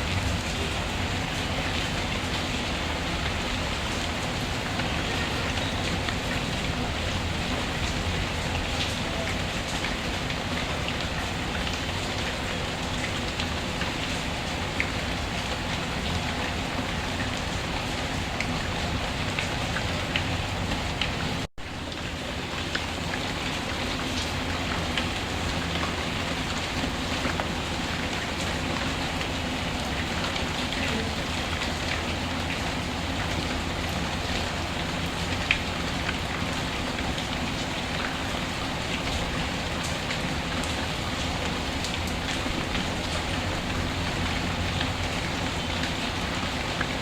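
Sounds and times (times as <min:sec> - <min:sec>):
rain pattering: 0:00.0 - 0:47.0.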